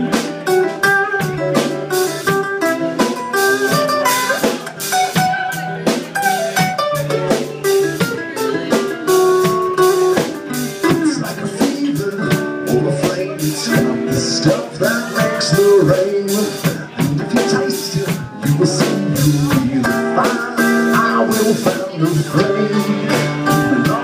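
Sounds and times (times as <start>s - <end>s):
drum kit beat: 0.0s - 24.0s
electric guitar lead melody: 0.0s - 24.0s.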